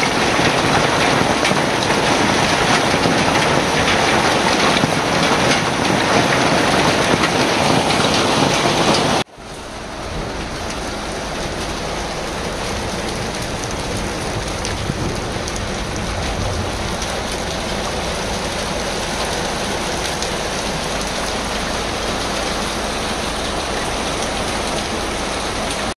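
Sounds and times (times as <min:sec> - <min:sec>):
hail and heavy rain on asphalt: 0:00.0 - 0:26.0.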